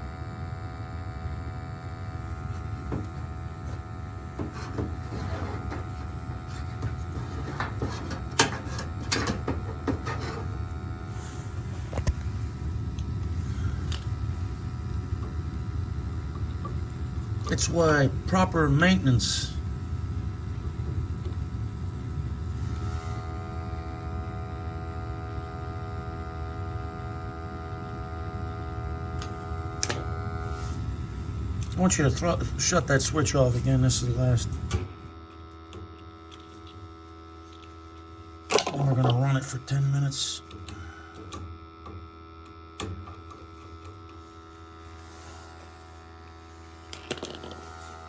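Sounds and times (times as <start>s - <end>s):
boiler burner rumbling: 0.0s - 48.0s.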